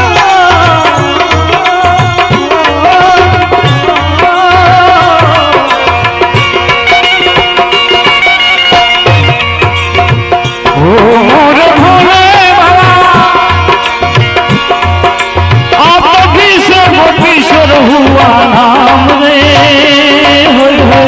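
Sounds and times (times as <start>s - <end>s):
tabla and small percussion: 0.0s - 21.0s.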